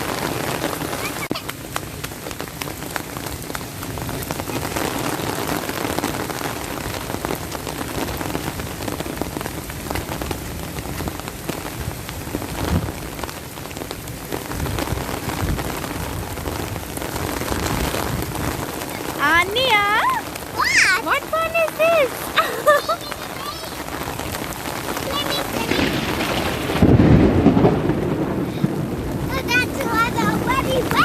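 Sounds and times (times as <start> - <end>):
rain on hard surfaces: 0.0 - 31.0.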